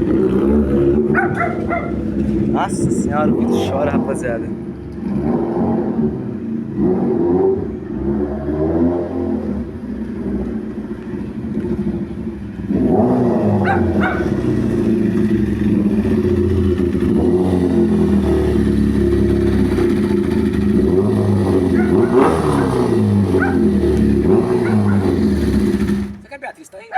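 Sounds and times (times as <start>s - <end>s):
vehicle engine revving: 0.0s - 26.3s.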